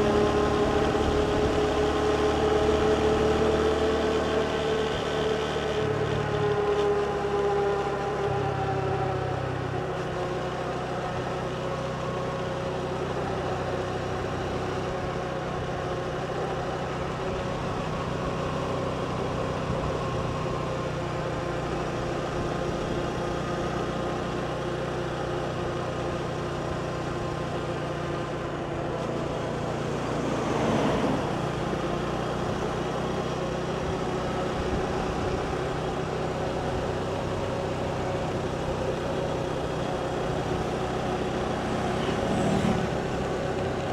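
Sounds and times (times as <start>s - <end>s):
motorbike engine running: 0.0s - 43.9s
road and wind noise: 0.0s - 43.9s.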